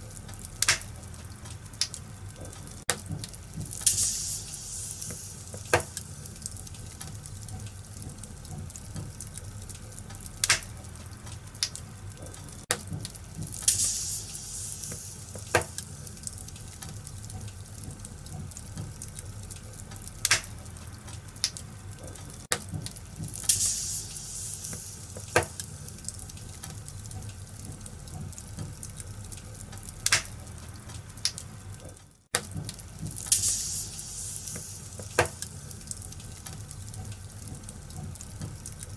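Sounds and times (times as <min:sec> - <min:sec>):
fire hissing flare-ups: 0:00.0 - 0:31.8, 0:32.6 - 0:38.9
wood fire crackling: 0:00.0 - 0:38.9
logs popping: 0:00.1 - 0:31.5, 0:32.3 - 0:38.9.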